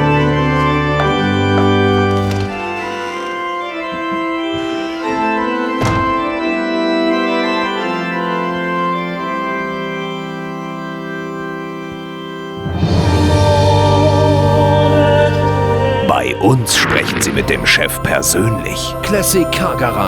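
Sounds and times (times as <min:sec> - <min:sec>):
organ chords: 0:00.0 - 0:20.0.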